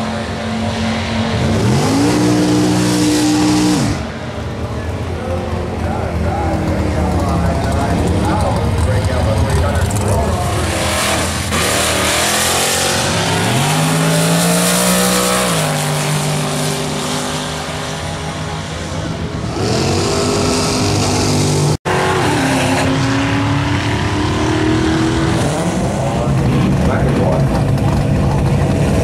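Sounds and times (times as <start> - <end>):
drag racing cars accelerating: 0.0 - 29.0.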